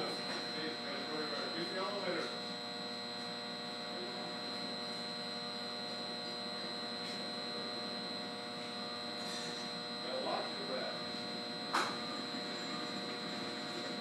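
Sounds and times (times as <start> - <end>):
electrical hum from switchgear: 0.0 - 14.0
thin high whine: 0.0 - 14.0.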